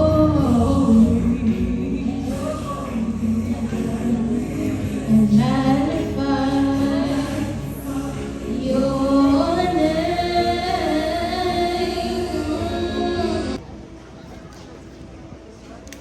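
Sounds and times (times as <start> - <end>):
choir singing: 0.0 - 13.6.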